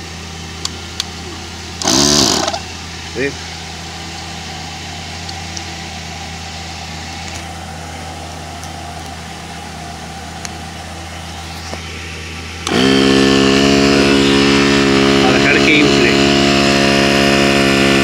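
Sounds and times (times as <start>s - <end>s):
electric air compressor running: 0.0s - 18.0s
low mechanical hum: 0.0s - 18.0s.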